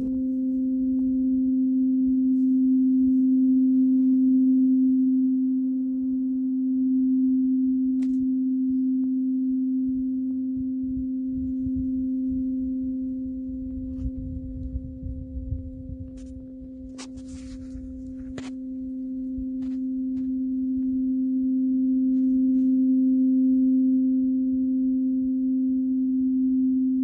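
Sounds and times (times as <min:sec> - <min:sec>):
tuning fork ringing: 0:00.0 - 0:27.0.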